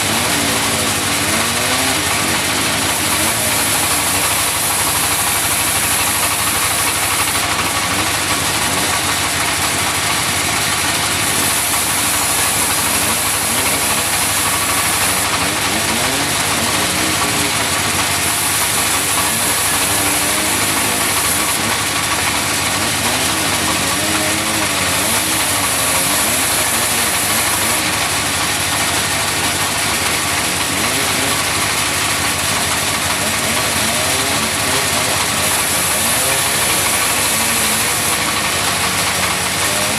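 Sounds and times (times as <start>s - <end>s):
sawmill sawing wood: 0.0s - 39.9s.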